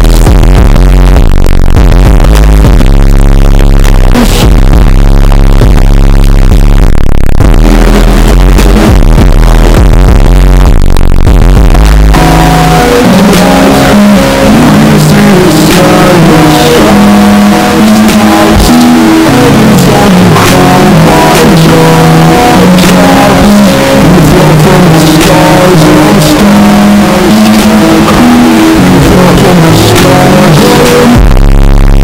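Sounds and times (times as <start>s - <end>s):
slowed reverb hip-hop song: 0.0s - 32.0s.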